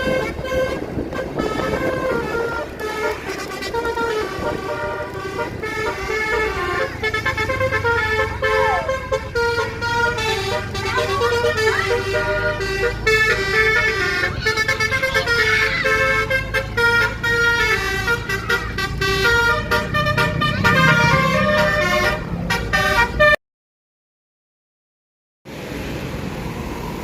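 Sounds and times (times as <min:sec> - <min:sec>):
bus musical horn playing: 0:00.0 - 0:23.4
traffic rumble: 0:00.0 - 0:23.4, 0:25.5 - 0:27.0.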